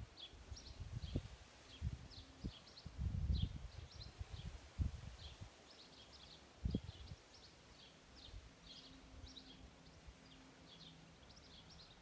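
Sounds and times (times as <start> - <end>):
small bird chirping: 0.1 - 4.6, 5.2 - 12.0.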